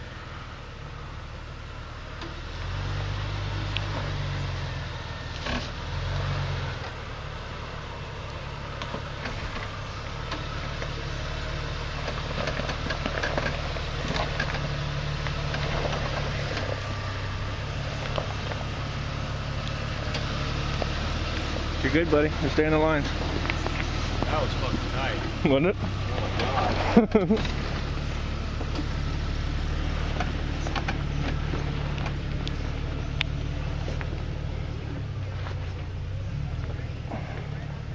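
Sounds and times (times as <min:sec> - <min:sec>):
engine running at low revs: 0:00.0 - 0:37.9
tyres crunching over dirt: 0:02.2 - 0:37.9.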